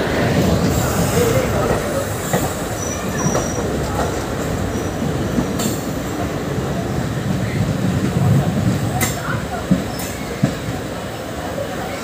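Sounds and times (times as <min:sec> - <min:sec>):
passing trains rumbling and rattling: 0:00.0 - 0:12.0.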